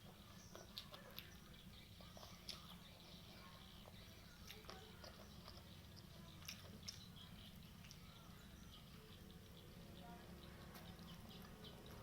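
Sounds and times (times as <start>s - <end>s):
chewing crunchy food: 0.0s - 12.0s
low steady hum: 0.0s - 12.0s.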